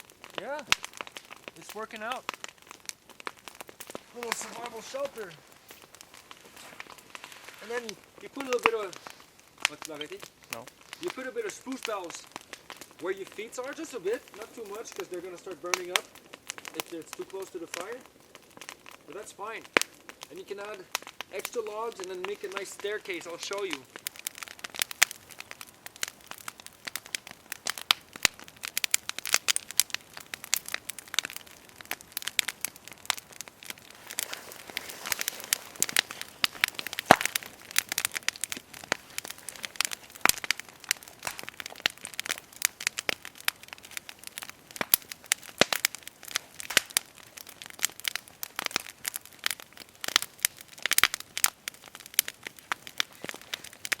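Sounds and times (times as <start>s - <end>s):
log fire crackling: 0.0s - 54.0s
sharp pops and snaps: 0.0s - 54.0s.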